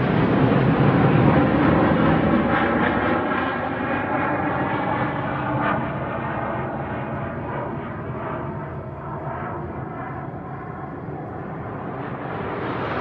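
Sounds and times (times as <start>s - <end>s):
jet aircraft roaring overhead: 0.0s - 13.0s.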